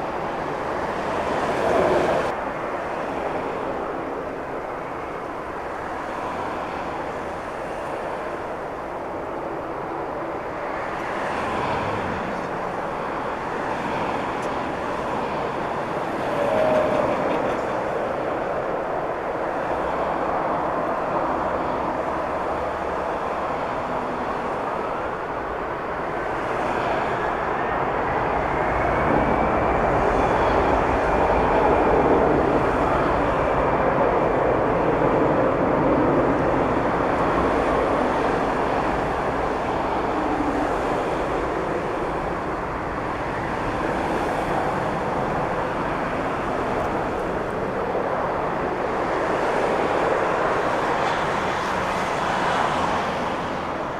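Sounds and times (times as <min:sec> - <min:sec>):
jet airliner taking off: 0:00.0 - 0:53.9.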